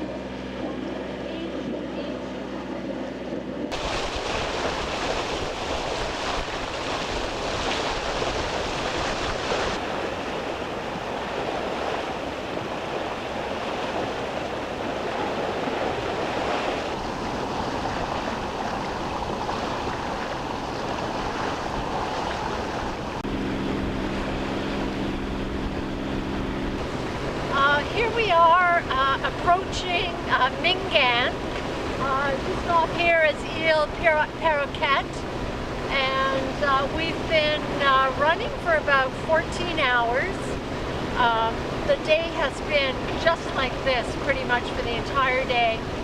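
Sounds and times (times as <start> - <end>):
low engine hum: 0.0 - 46.0
rushing wind and water: 0.0 - 46.0
wind buffeting microphone: 0.0 - 46.0.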